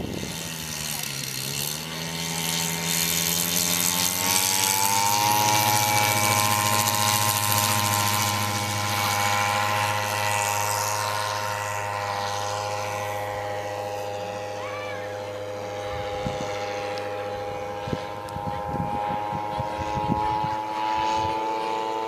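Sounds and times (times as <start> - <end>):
model plane engine droning: 0.0 - 22.0.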